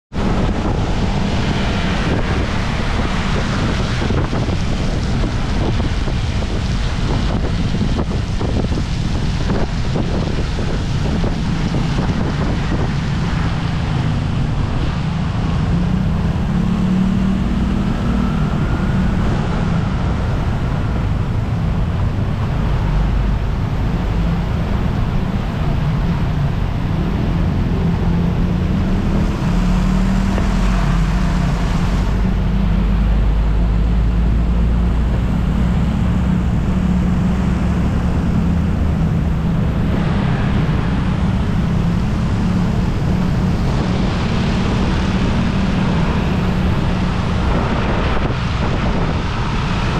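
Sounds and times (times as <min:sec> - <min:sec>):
truck deep rumble: 0:00.1 - 0:49.9
tyres on wet road: 0:00.1 - 0:49.9
wind buffeting microphone: 0:00.1 - 0:49.9.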